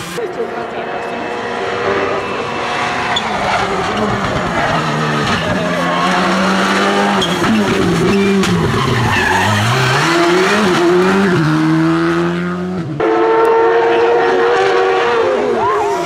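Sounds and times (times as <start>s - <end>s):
rally car engine at high revs: 0.0s - 15.7s
rally car engine accelerating: 0.0s - 16.0s.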